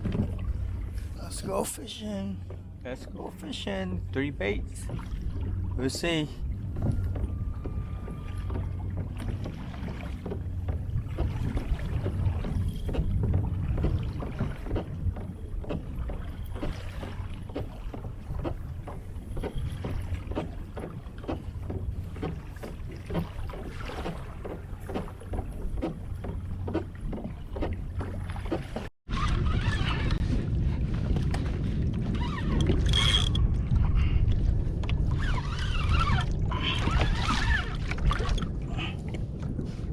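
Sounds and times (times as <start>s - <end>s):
water splashing against kayak hull: 0.0s - 33.9s, 34.8s - 39.8s
wind rumble on microphone: 0.0s - 39.9s.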